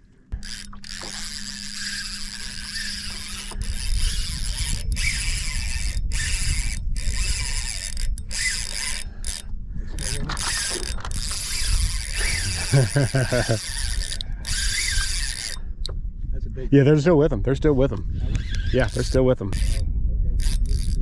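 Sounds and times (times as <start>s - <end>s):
fishing reel whirring: 0.3s - 15.9s, 18.3s - 19.8s, 20.4s - 21.0s.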